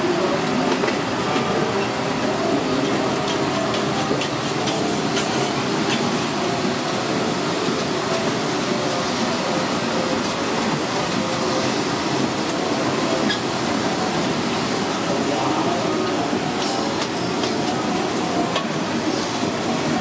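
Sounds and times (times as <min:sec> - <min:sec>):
busy kitchen din: 0:00.0 - 0:07.2, 0:08.2 - 0:20.0.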